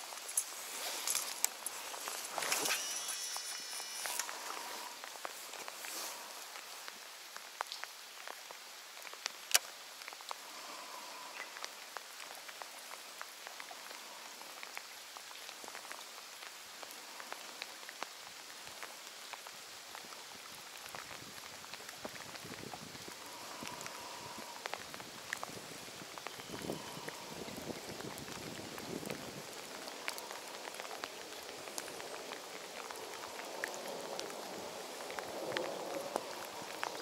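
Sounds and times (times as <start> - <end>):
rain falling on water: 0.0 - 37.0.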